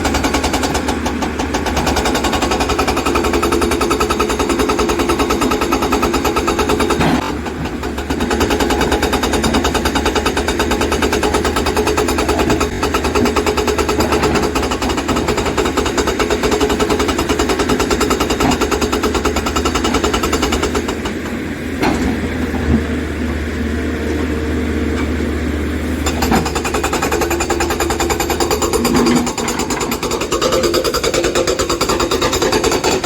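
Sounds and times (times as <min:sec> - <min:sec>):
diesel engine hum: 0:00.0 - 0:33.0
hydraulic rock breaker pounding: 0:00.0 - 0:33.0.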